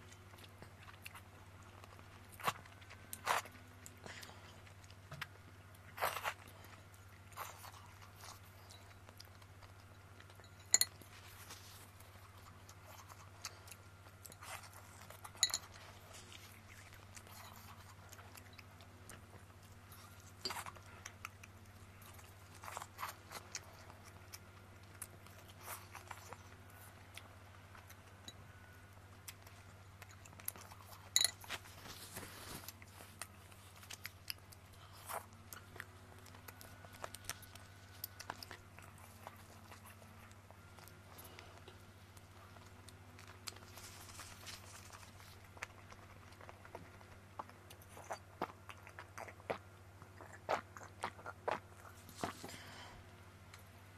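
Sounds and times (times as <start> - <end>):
person chewing: 0.0 - 53.8.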